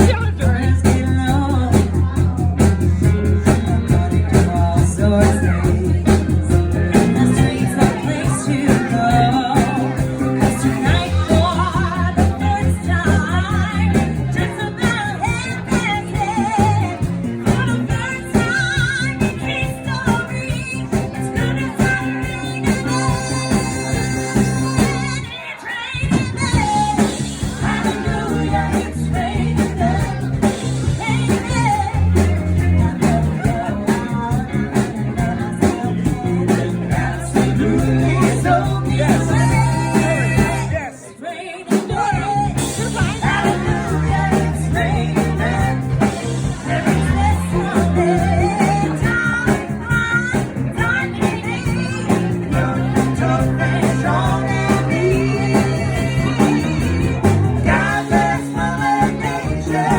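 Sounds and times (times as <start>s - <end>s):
live band playing disco: 0.0s - 59.9s
woman singing: 0.0s - 59.9s.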